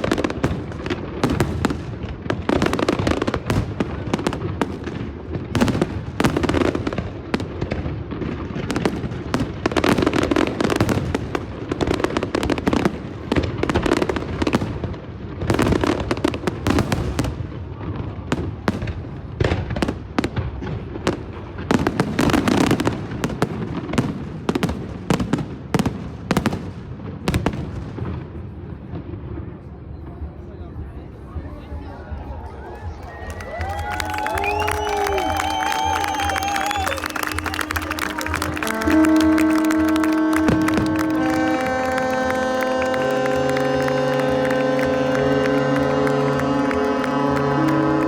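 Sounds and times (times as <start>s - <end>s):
fireworks bursts and bangs: 0.0s - 48.0s.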